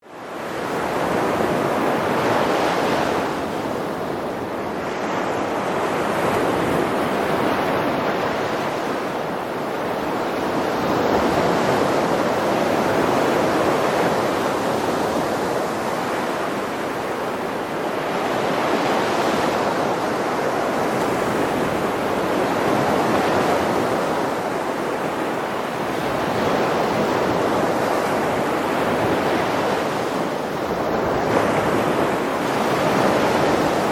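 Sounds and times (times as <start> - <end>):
waves washing onto shore: 0.0 - 33.9.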